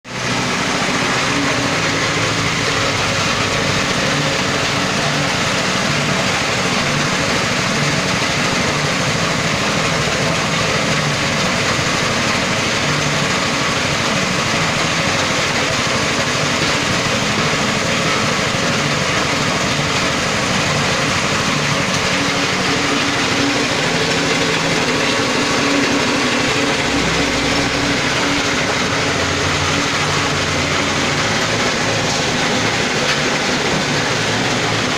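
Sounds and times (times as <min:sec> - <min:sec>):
small petrol engine running: 0:00.1 - 0:34.9.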